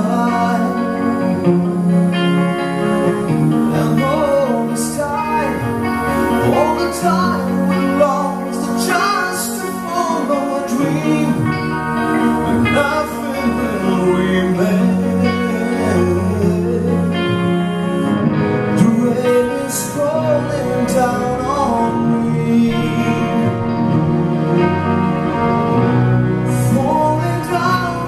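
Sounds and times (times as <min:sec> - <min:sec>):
man singing: 0:00.0 - 0:25.4, 0:26.4 - 0:28.0
bass: 0:00.0 - 0:28.0
electric guitars: 0:00.0 - 0:28.0
keyboard chords: 0:00.0 - 0:28.0.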